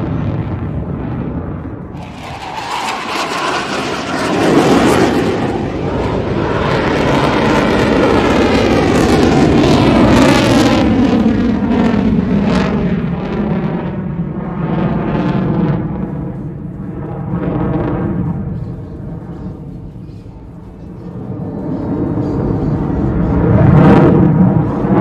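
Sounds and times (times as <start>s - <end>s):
fighter jet roaring past: 0.0s - 25.0s.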